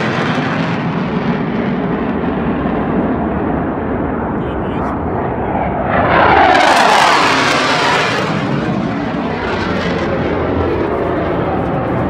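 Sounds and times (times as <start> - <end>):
jet aircraft flying overhead: 0.0 - 12.0.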